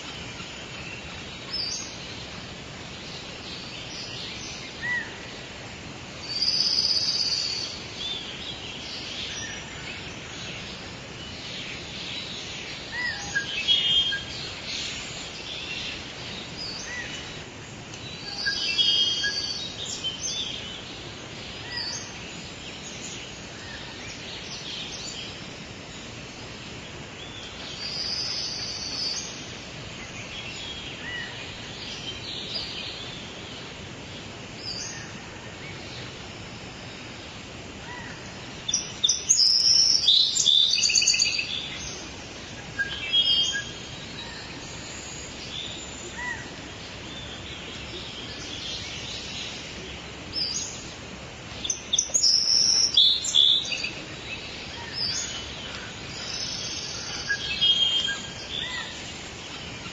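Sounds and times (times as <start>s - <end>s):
outdoor ambience hiss: 0.0s - 59.9s
songbirds chirping and singing: 0.0s - 59.9s.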